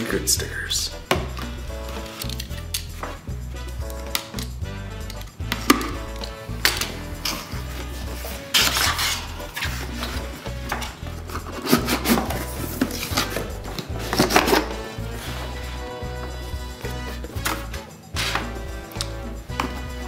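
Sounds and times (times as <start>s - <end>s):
background music with bass beat: 0.0s - 20.0s.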